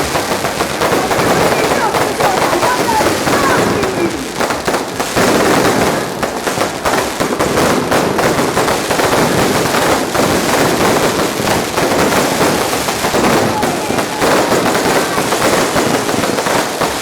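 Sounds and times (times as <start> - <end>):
fireworks cracking and banging: 0.0 - 17.0.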